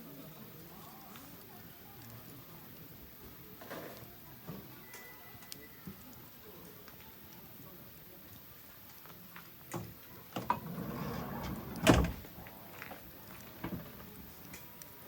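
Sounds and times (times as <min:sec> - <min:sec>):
campfire crackling and popping: 0:00.4 - 0:10.3, 0:12.2 - 0:15.0.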